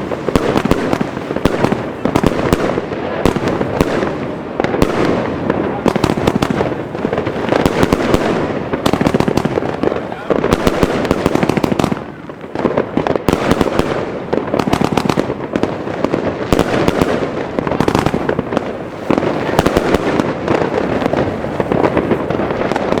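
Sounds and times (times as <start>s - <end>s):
firework cake firing: 0.0s - 23.0s.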